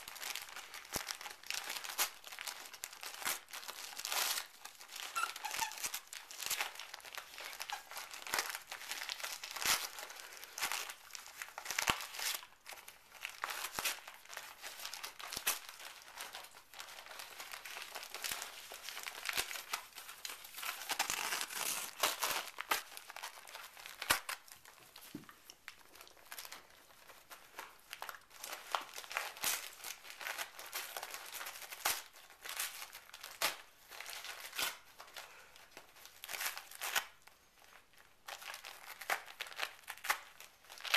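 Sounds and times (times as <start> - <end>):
wrapping paper crinkling and tearing: 0.0 - 40.9.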